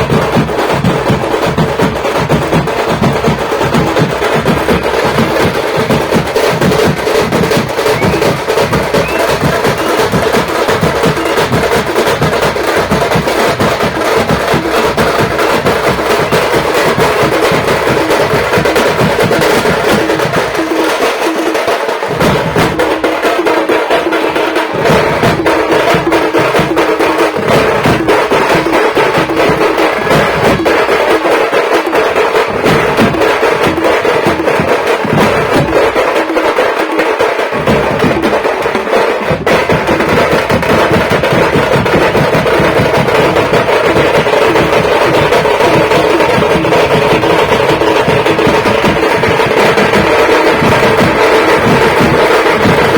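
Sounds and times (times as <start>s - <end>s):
music with fast percussion: 0.0s - 52.9s
rapid drum and wood-block hits: 0.0s - 52.9s.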